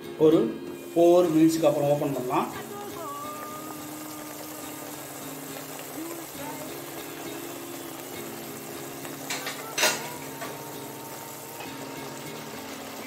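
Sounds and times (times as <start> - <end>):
thick gravy bubbling in a pan: 0.8 - 13.0.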